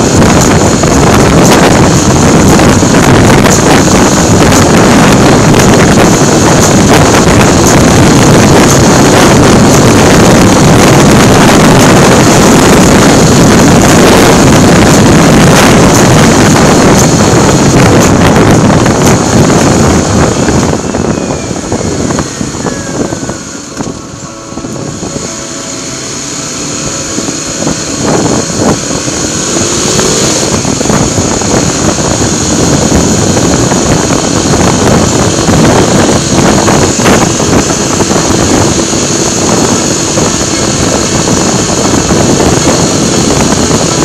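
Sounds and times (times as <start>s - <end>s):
motorcycle running: 0.0s - 44.0s
wind buffeting microphone: 0.0s - 44.0s.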